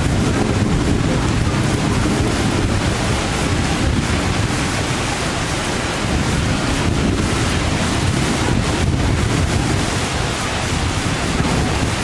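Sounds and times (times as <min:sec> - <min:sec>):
heavy rain: 0:00.0 - 0:12.0
wind buffeting microphone: 0:00.0 - 0:12.0.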